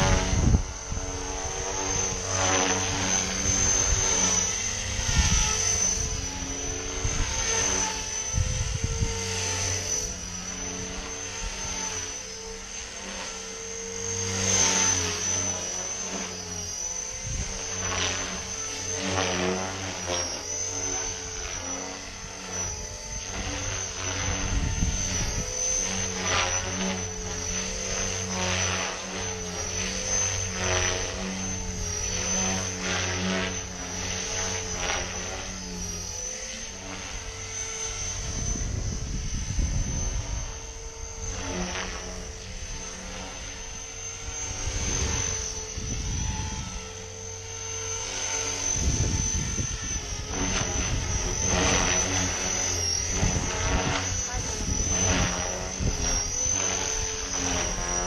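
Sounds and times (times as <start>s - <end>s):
high motor whine: 0.0s - 58.0s
rotor blades whooshing: 0.0s - 58.0s.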